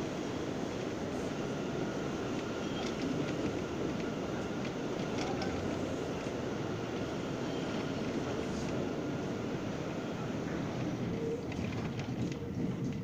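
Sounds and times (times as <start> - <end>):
subway wheels and motors rumbling: 0.0 - 13.0.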